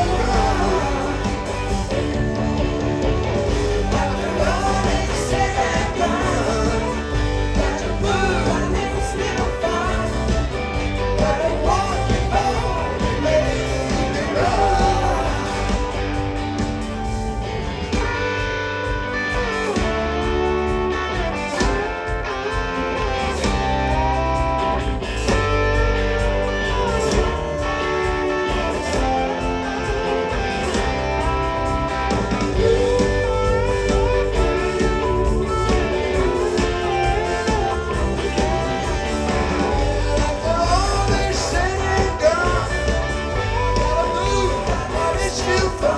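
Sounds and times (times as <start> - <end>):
bass and drums: 0.0 - 45.9
electric guitar lead: 0.0 - 45.9.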